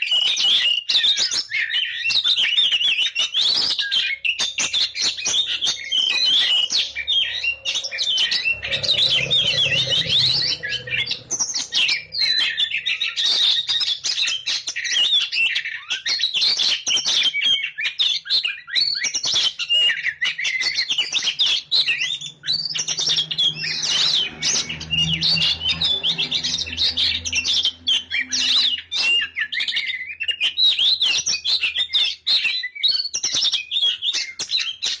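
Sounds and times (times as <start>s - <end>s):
songbird whistling and chirping: 0.0s - 35.0s.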